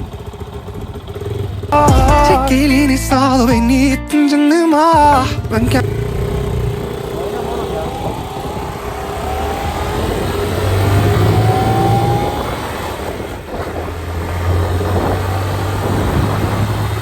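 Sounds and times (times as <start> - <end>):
motorcycle engine running: 0.0 - 2.9, 5.0 - 17.0.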